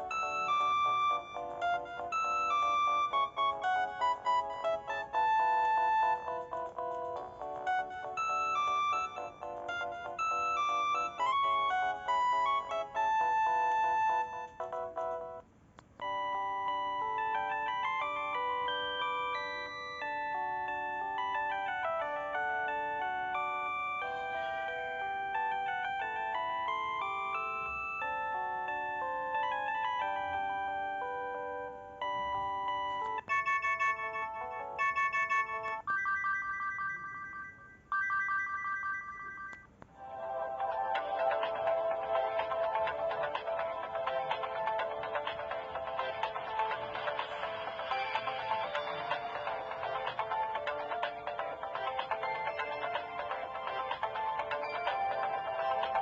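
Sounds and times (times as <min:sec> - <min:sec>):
mobile phone ringtone: 0:00.0 - 0:15.4, 0:16.0 - 0:56.0.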